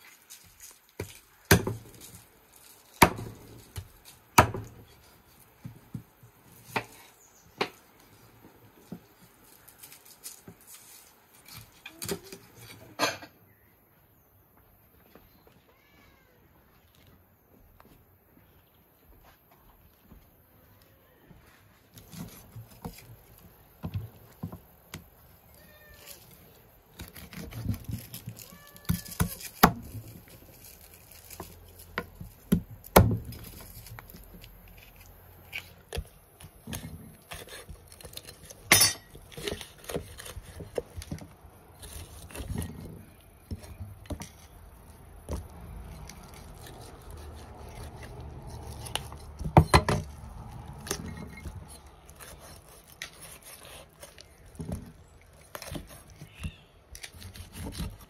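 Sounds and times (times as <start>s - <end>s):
slicing and handling meat: 0.0s - 13.0s, 21.6s - 58.0s.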